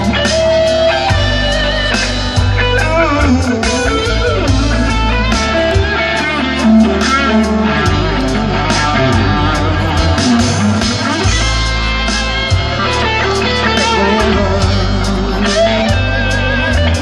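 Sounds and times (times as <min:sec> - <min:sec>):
bass: 0:00.0 - 0:17.0
drums: 0:00.0 - 0:17.0
electric guitar: 0:00.0 - 0:17.0.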